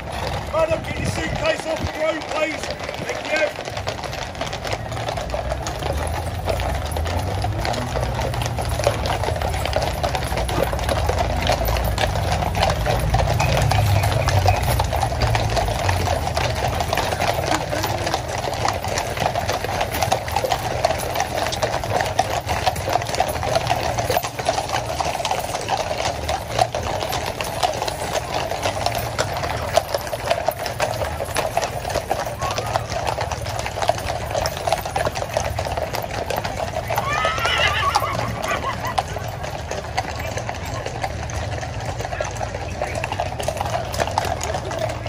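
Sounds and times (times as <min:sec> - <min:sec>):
horse hooves clip-clopping on pavement: 0:00.0 - 0:45.0.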